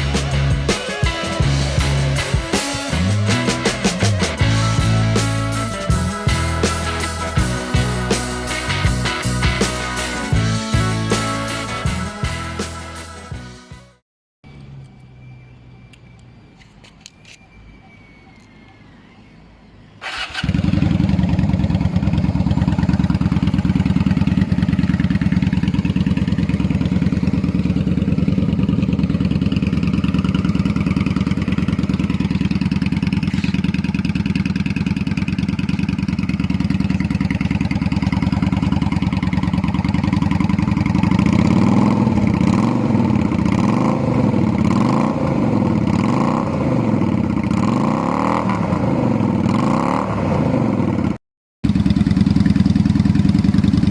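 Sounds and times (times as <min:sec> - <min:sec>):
motorcycle engine idling and revving: 0:00.0 - 0:17.4, 0:20.0 - 0:53.9.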